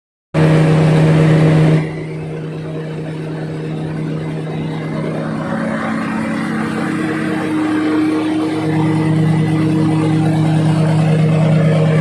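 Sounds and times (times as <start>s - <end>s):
large machine engine humming: 0.4s - 12.0s.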